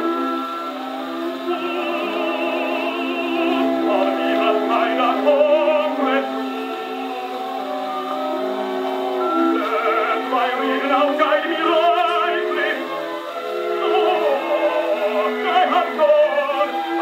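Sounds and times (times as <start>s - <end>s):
opera record on phonograph: 0.0s - 17.0s
orchestra playing: 0.0s - 17.0s
person singing with vibrato: 0.0s - 17.0s.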